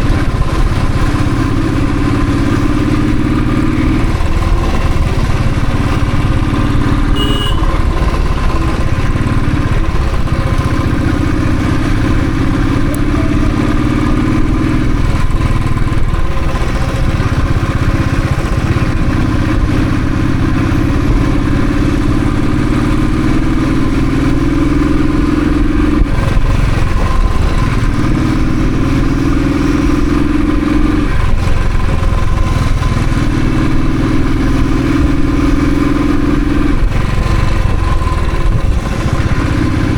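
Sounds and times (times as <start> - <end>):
motorcycle engine accelerating through gears: 0.0 - 39.9.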